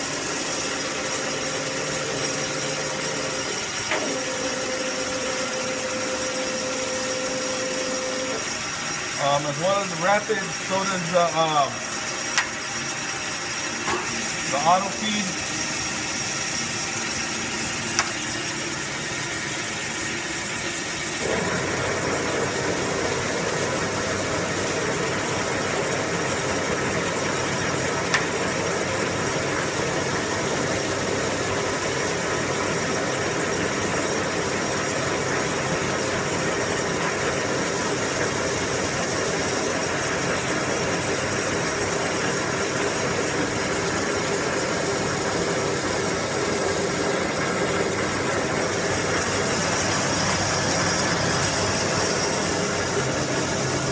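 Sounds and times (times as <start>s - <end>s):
grinder machine whirring: 0.0s - 53.9s.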